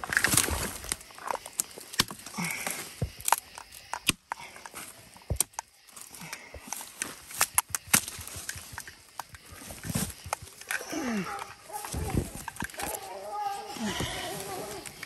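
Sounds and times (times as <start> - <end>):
twigs snapping: 0.0 - 15.0.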